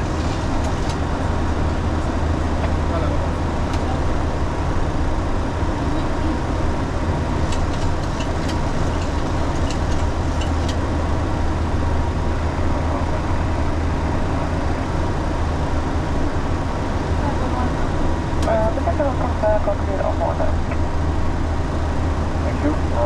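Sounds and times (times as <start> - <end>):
low cockpit hum: 0.0 - 23.0.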